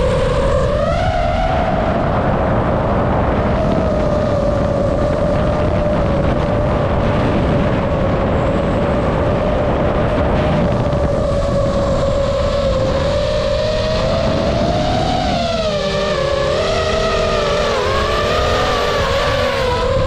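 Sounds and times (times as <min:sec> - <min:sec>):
drone propellers whining: 0:00.0 - 0:20.0
wind on microphone: 0:00.0 - 0:20.0.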